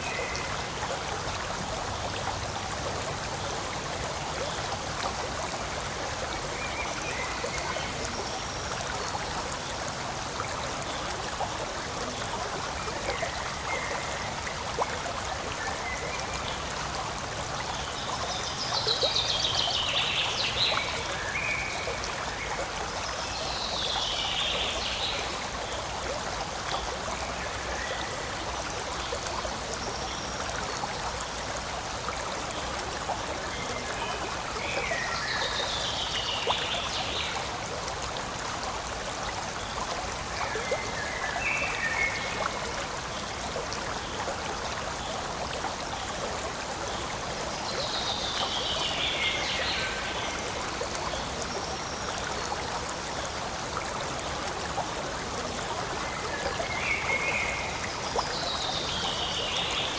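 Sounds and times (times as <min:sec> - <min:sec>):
forest stream flowing: 0:00.0 - 0:59.9.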